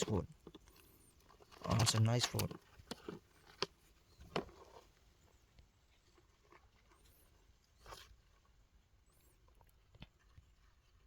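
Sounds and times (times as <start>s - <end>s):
faint ticks and rustles: 0.0s - 11.0s.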